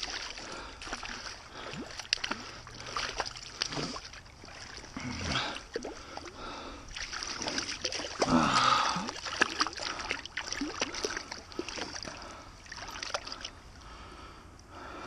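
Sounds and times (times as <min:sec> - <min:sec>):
fish splashing at water surface: 0:00.0 - 0:13.5
water sloshing: 0:00.0 - 0:14.0.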